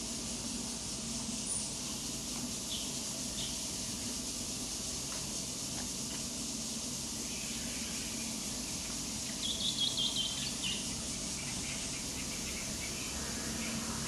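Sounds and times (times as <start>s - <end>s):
high insect hiss: 0.0s - 14.0s.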